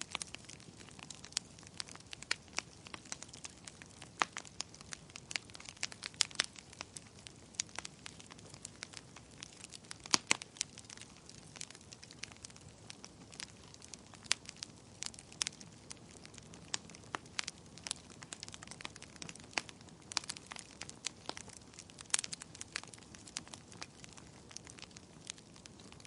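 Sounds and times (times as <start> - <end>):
fire hissing: 0.0 - 26.0
logs crackling and popping: 0.0 - 26.0.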